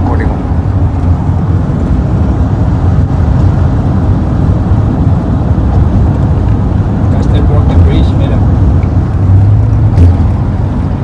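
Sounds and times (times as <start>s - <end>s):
road and engine rumble in cab: 0.0s - 11.0s.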